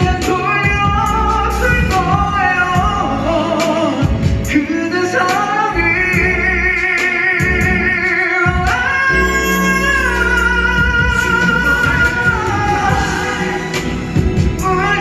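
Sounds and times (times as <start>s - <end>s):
guitar accompaniment: 0.0s - 15.0s
man singing ballad: 0.0s - 15.0s.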